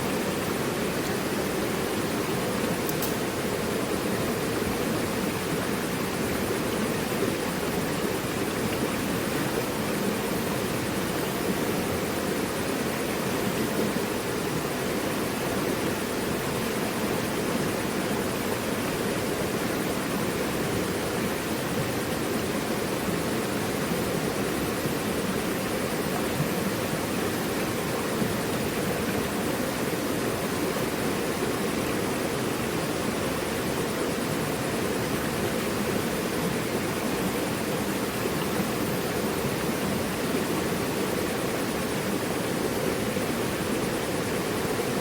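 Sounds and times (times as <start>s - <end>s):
river rushing over rocks: 0.0s - 45.0s.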